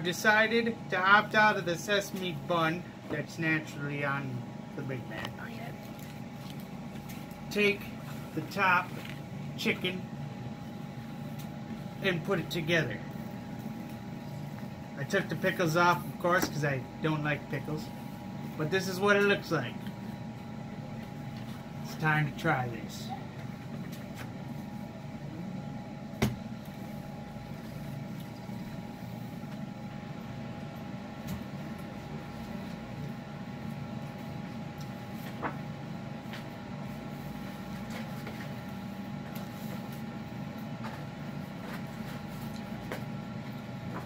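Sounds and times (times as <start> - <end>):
appliance hum with whine: 0.0 - 44.0.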